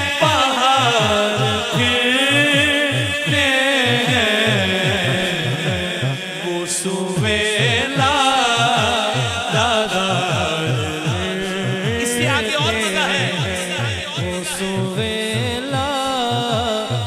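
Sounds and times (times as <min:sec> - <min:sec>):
low repeating beat: 0:00.0 - 0:17.0
man singing into a microphone: 0:00.0 - 0:17.0.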